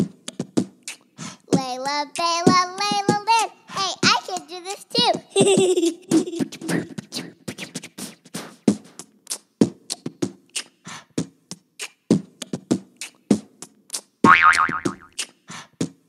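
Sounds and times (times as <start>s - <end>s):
beatboxing: 0.0s - 11.2s, 11.8s - 16.0s.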